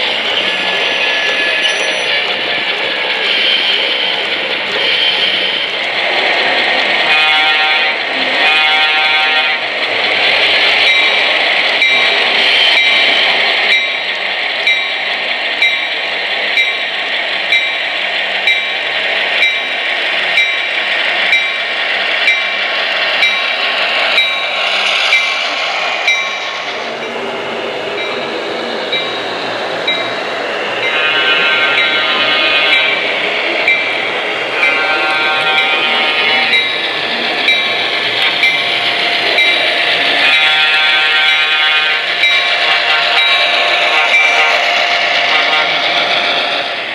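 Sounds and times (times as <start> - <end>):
model train diesel engine sound: 0.0 - 46.9.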